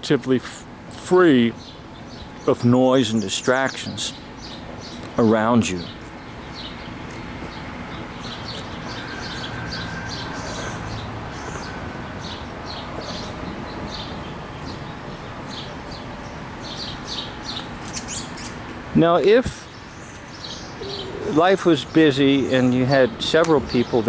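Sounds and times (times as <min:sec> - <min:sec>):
steady background hiss: 0:00.0 - 0:24.0
small birds chirping: 0:00.9 - 0:24.0.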